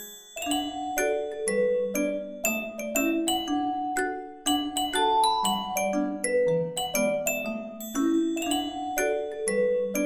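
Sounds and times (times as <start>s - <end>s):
bell-like mallet percussion tune: 0.0s - 10.0s.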